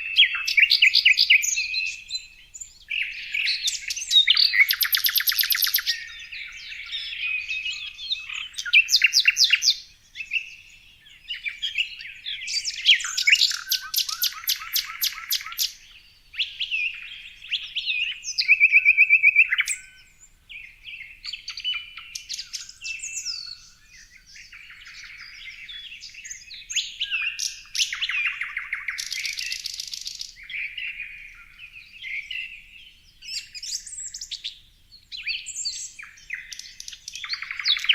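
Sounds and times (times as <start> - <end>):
small birds chirping and trilling: 0.0 - 37.9.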